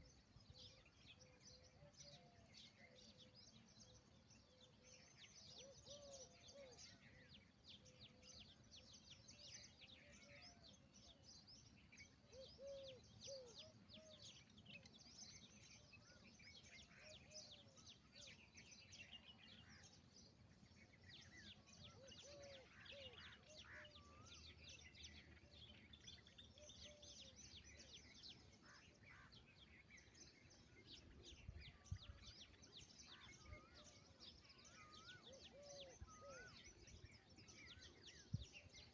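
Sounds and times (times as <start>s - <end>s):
low soft bird calls: 0.0s - 38.9s
small birds chirping: 0.0s - 38.9s.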